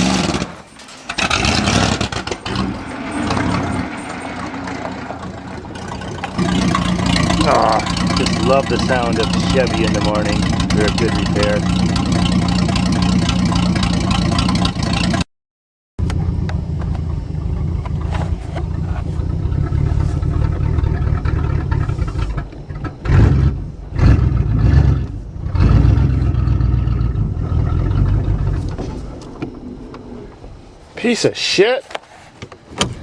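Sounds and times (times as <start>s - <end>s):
car engine running unevenly: 0.0s - 15.2s, 16.0s - 31.0s.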